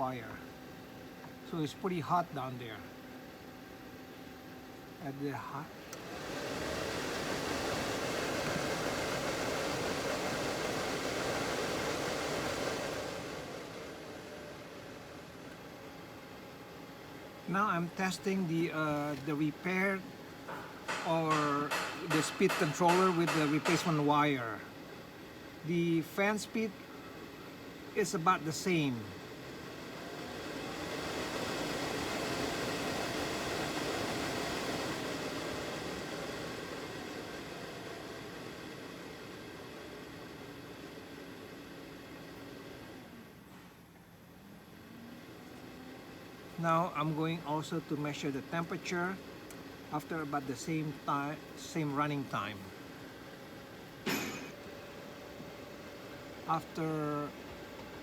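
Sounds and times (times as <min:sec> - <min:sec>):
heater blower fan running: 0:00.0 - 0:58.0.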